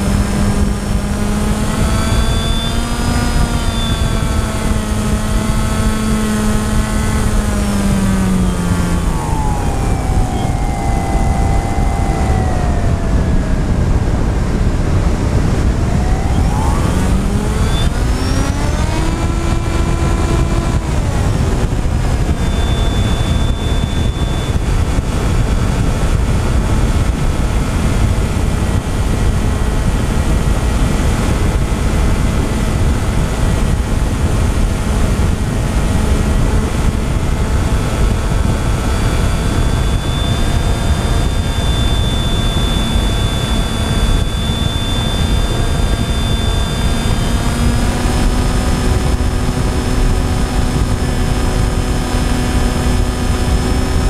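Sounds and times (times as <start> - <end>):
drone motors whining: 0.0 - 54.0
heavy wind rush: 0.0 - 54.0.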